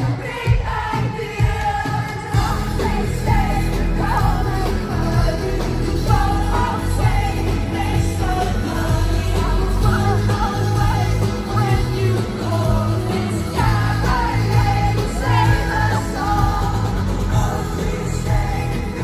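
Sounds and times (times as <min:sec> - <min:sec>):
live pop-rock band playing: 0:00.0 - 0:19.0
woman singing: 0:00.0 - 0:19.0.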